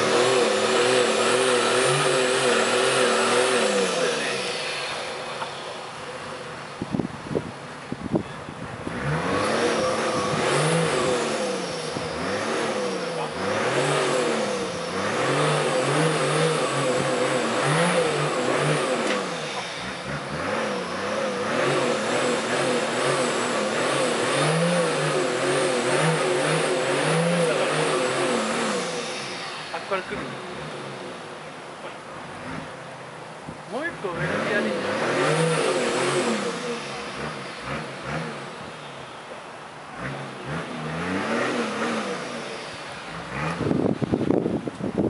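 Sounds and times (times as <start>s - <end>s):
engine revving in mud: 0.0s - 6.4s, 8.8s - 31.4s, 32.2s - 33.0s, 33.7s - 38.9s, 39.9s - 45.0s.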